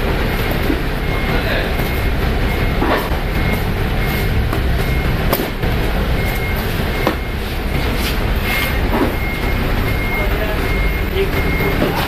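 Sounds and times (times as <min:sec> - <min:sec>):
reversing alarm beeps: 0:00.0 - 0:12.0
truck engine rumbling: 0:00.0 - 0:12.0.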